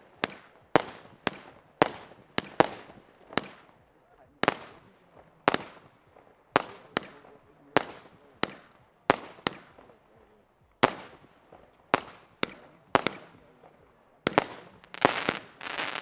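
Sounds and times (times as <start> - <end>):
firework bangs with echo: 0.0 - 10.2, 10.8 - 16.0.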